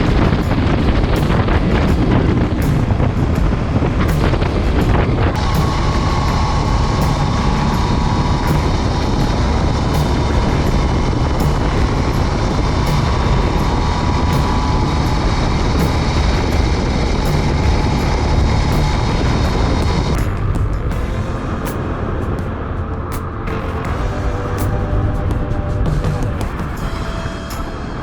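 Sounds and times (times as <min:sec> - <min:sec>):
wind and road rush: 0:00.0 - 0:28.0.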